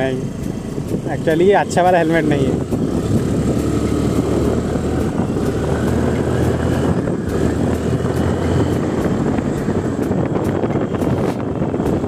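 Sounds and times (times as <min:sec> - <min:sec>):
scooter engine drone: 0:00.0 - 0:12.0
wind rumble on microphone: 0:00.0 - 0:12.0.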